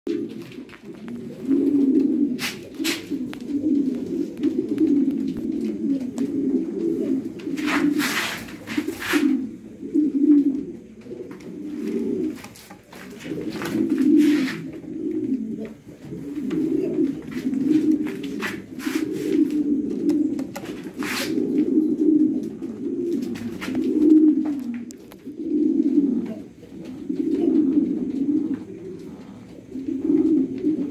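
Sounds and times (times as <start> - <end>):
pigeon cooing: 0.1 - 30.9
rustling noise: 0.1 - 30.9.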